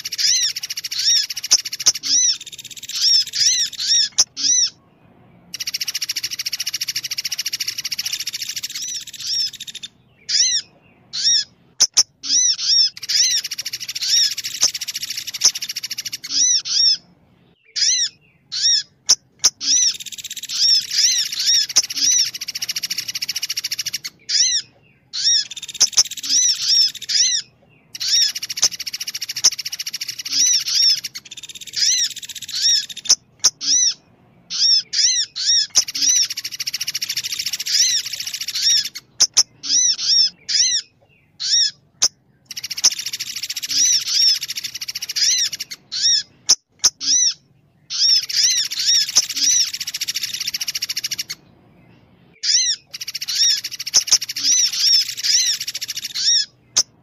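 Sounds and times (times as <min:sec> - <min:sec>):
rapid high bird chirping: 0:00.0 - 0:57.0.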